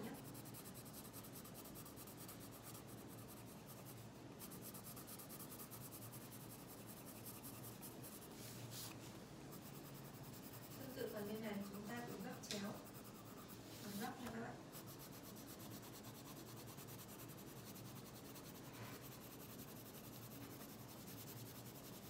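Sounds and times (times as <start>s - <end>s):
pencil scratching on paper: 0.0s - 22.0s.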